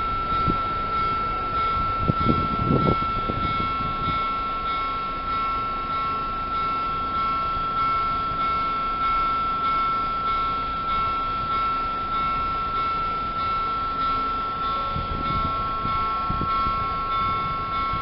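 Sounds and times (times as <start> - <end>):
level crossing warning bell: 0.0 - 18.0
low traffic rumble: 0.0 - 18.0.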